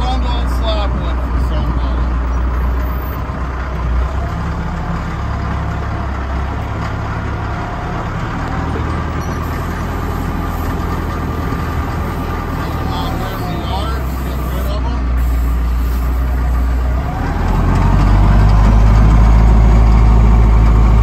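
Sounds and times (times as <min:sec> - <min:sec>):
forklift engine running: 0:00.0 - 0:21.0.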